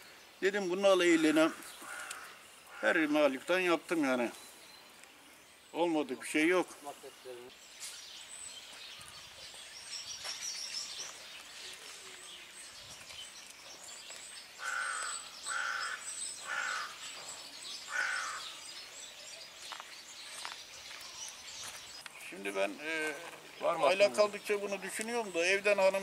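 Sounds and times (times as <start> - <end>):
bird calls: 0.0 - 26.0
high chirping of small birds: 0.0 - 26.0.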